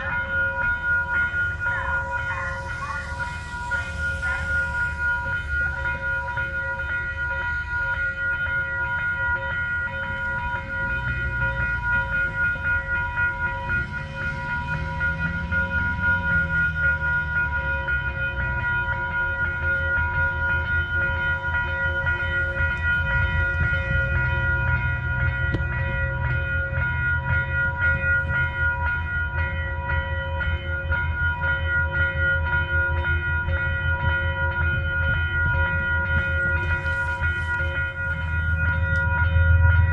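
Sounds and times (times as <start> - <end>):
diesel locomotive engine rumble: 0.0 - 39.9.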